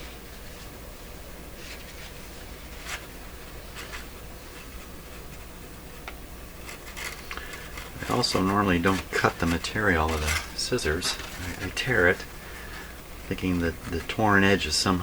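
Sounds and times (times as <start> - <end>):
cloth rustling: 0.0 - 15.0
low steady hum: 0.0 - 15.0.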